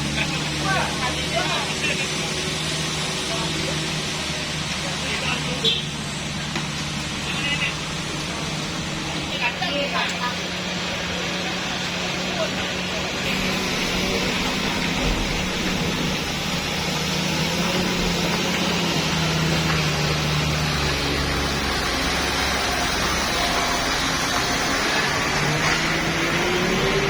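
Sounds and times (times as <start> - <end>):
road and traffic noise: 0.0 - 27.0
truck diesel engine droning: 0.0 - 27.0.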